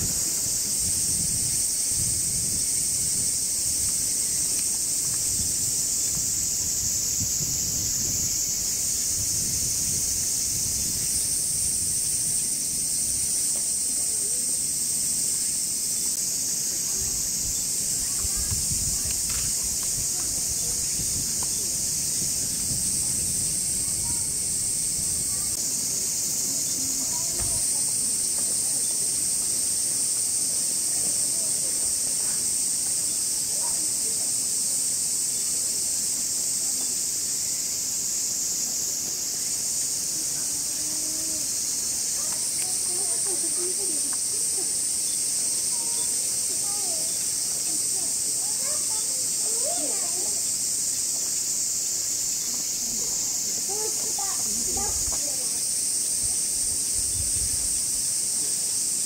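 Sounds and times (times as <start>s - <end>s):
cicadas shrill hiss: 0.0s - 59.0s.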